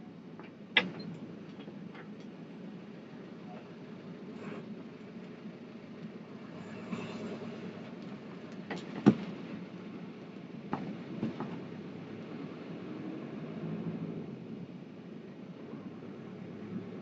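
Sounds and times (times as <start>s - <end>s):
vehicle road rumble: 0.0s - 17.0s.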